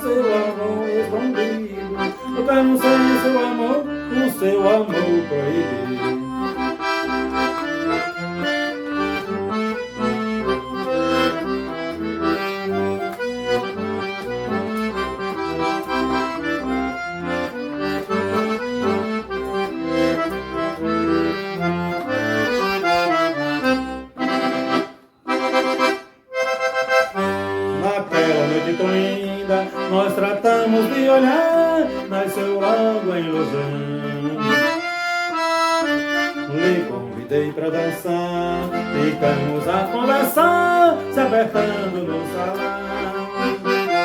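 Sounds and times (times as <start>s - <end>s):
accordion solo: 0.0s - 44.0s.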